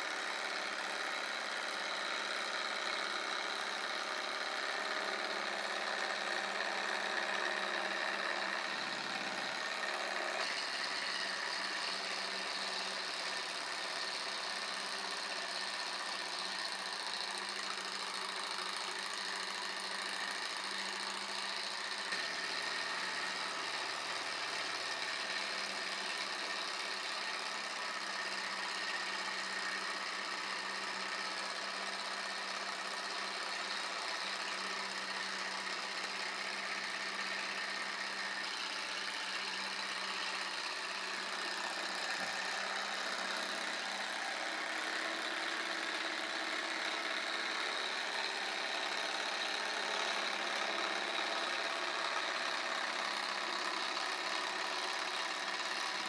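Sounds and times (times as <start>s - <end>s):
model stirling engine running: 0.0s - 56.0s.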